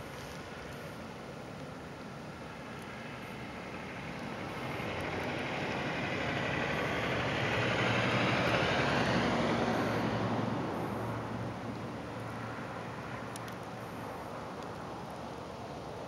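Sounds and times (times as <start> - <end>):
car tyres hissing on snow: 0.0 - 15.0.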